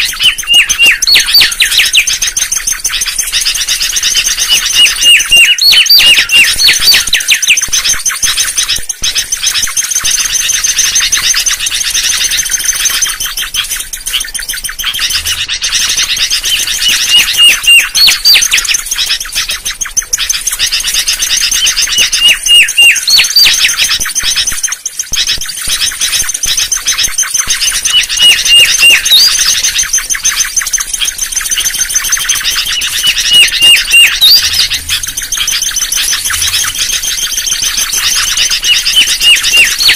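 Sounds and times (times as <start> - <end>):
bird whistled song: 0.0 - 39.9
high-pitched bird chatter: 0.0 - 39.9.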